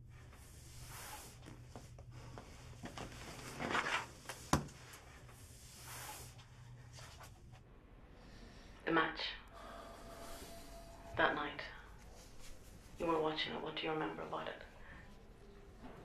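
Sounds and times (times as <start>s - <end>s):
soft rustling movement: 0.0s - 7.6s, 10.1s - 16.0s
low steady hum: 0.0s - 16.0s.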